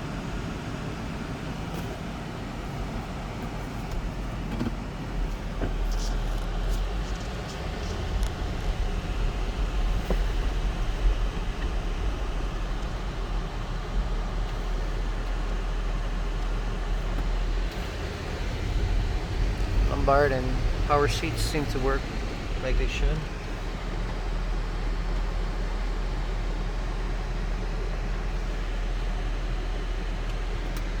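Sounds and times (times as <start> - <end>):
car cabin road rumble: 0.0 - 31.0.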